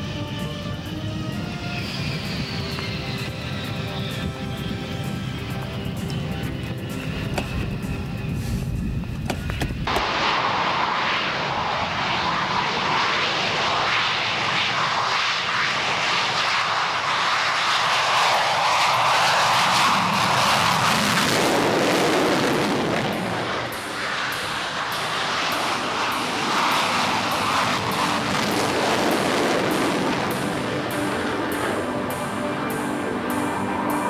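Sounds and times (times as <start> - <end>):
jet engine with afterburner: 0.0 - 34.0.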